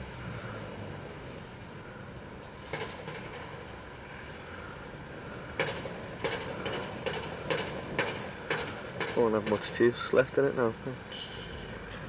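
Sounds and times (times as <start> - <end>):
distant motorbike engine: 0.0 - 9.7
outdoor noise: 0.0 - 12.0.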